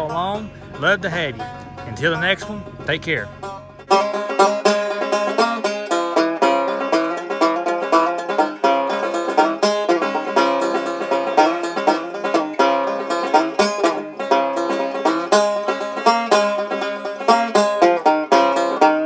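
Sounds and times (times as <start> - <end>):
upbeat bluegrass banjo tune: 0.0 - 19.0.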